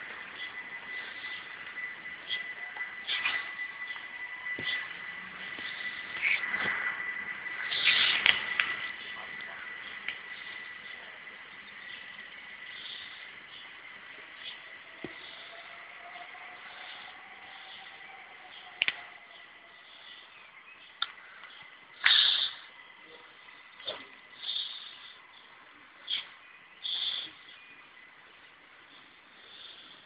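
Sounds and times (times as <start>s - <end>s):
distant electric train hiss: 0.0s - 30.0s
train whine: 0.0s - 30.0s.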